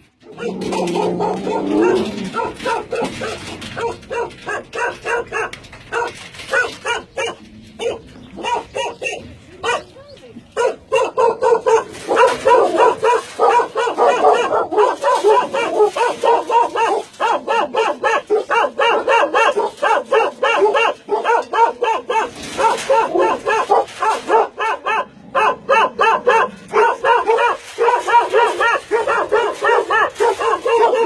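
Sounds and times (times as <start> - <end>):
dogs barking rapidly: 0.0 - 31.0.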